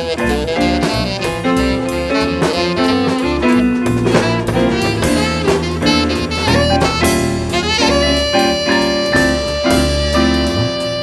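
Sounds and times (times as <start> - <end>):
jazz keys bass and drums: 0.0 - 11.0
tenor saxophone: 0.0 - 11.0.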